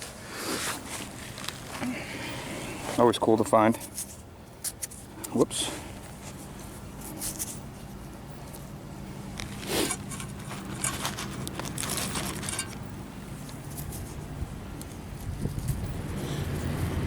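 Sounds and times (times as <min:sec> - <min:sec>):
rustling handling noise: 0:00.0 - 0:16.1.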